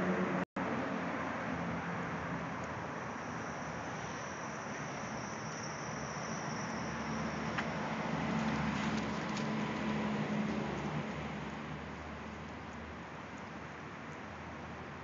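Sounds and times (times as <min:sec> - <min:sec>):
road traffic hum: 0:00.0 - 0:15.0
street background noise: 0:00.0 - 0:15.0.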